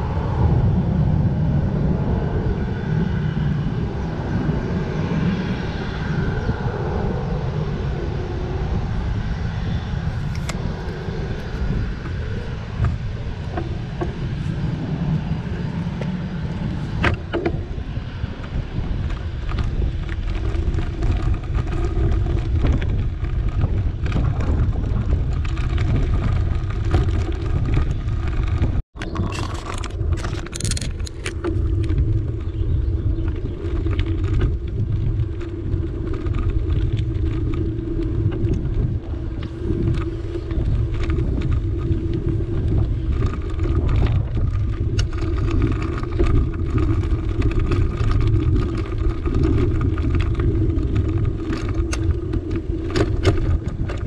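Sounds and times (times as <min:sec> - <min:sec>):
wind buffeting microphone: 0:00.0 - 0:54.0
tyre noise on tarmac: 0:07.2 - 0:54.0
bicycle rattling: 0:10.0 - 0:54.0.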